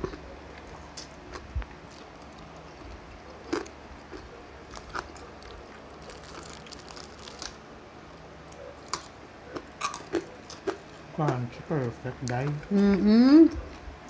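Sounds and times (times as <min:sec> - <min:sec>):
crunching and chewing fried food: 0:00.0 - 0:13.9.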